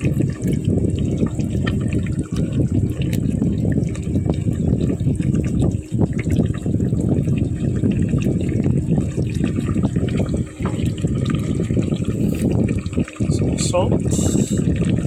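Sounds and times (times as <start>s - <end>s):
tofu bubbling and crackling in oil: 0.0s - 15.0s.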